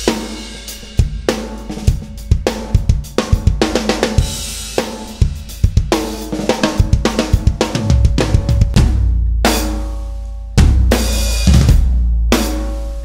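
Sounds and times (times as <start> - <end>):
acoustic drum kit groove: 0.0 - 13.0.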